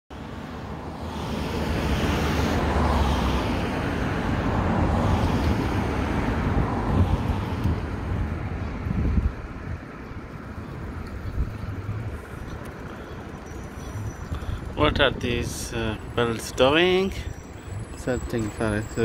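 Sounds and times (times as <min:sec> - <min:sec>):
road traffic rumble: 0:00.1 - 0:19.0.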